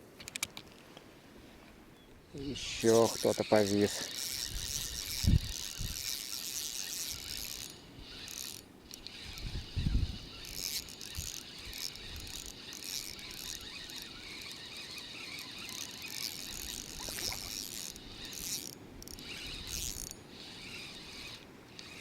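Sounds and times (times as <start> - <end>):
fishing reel whirring and clicking: 2.4 - 22.0.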